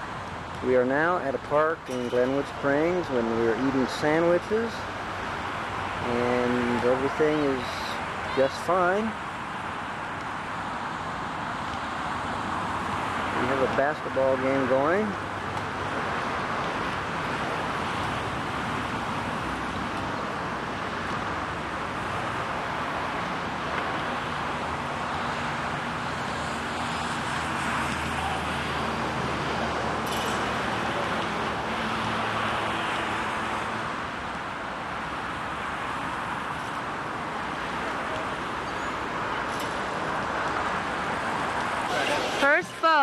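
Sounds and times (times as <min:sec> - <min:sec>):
outdoor rushing noise: 0:01.6 - 0:43.0.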